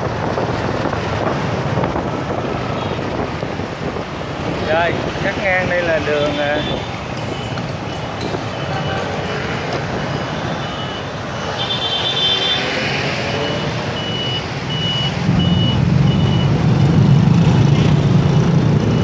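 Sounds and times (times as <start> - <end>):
motorbike engines running: 0.0 - 19.0.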